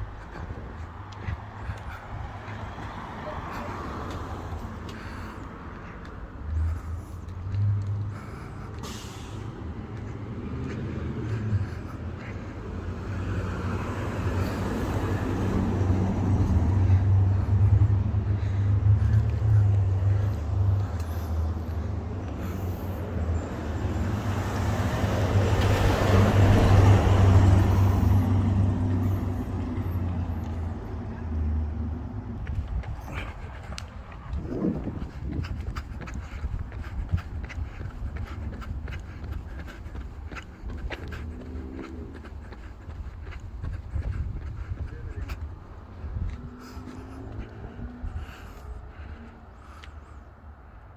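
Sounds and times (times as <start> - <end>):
low rumble of traffic: 0.0 - 50.9
vehicle tyre and road noise: 0.0 - 50.9.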